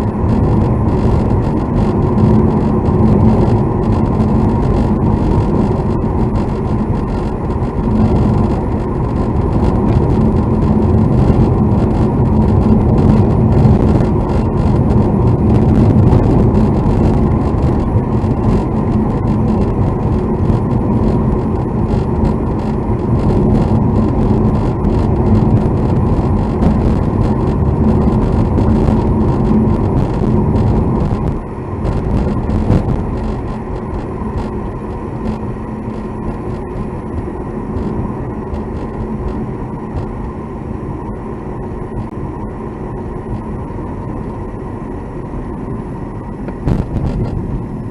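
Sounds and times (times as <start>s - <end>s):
road and engine noise in car: 0.0s - 47.9s
steady low hum: 0.0s - 47.9s.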